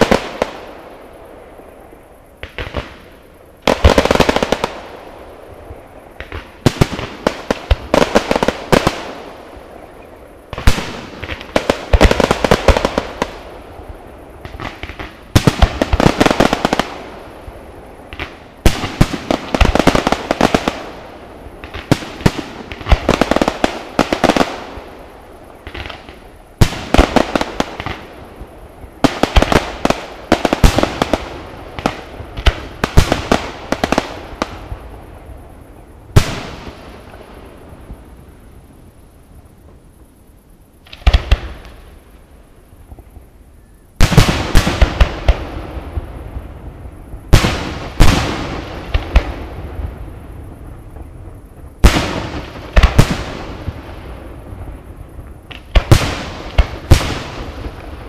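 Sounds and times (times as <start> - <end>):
fireworks bangs and crackling: 0.0 - 38.5, 40.8 - 42.1, 44.0 - 58.0.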